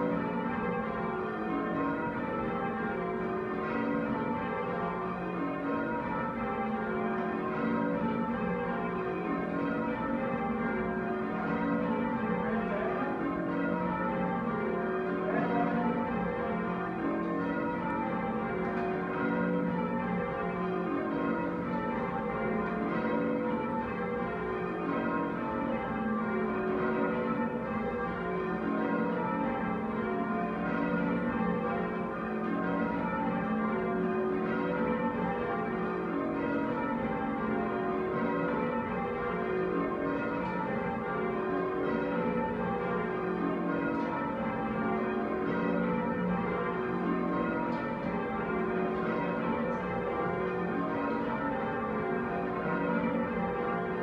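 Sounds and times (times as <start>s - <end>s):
church bells change-ringing: 0.0s - 54.0s.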